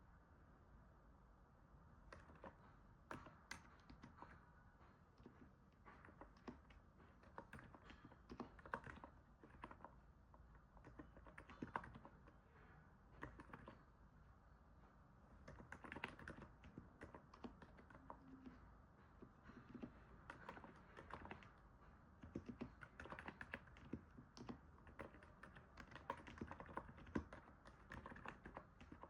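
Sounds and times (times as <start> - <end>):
soft keyboard typing: 2.0 - 14.0, 15.2 - 29.0.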